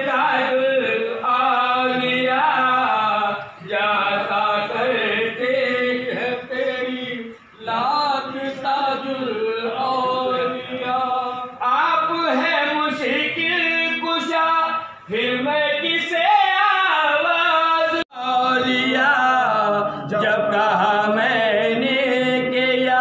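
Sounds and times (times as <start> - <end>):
men chanting: 0.0 - 23.0.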